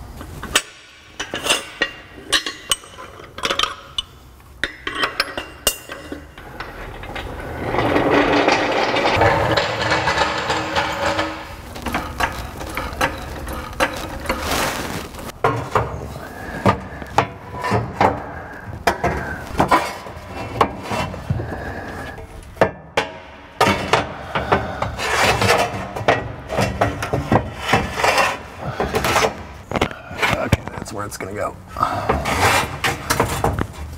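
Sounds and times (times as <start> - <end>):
metal clunks and scraping: 0.2 - 30.9, 32.0 - 33.9.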